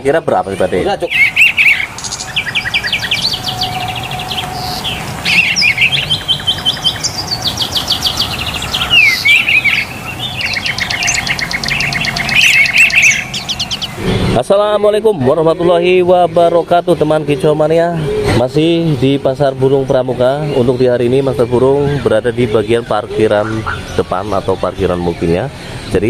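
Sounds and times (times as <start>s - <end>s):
songbirds chirping and trilling: 0.0s - 26.0s.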